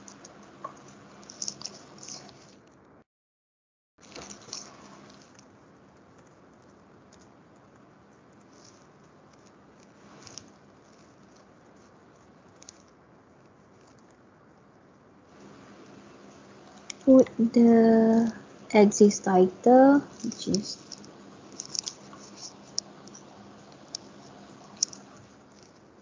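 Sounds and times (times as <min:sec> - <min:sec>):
faint steady hiss: 0:00.0 - 0:02.6, 0:04.0 - 0:26.0.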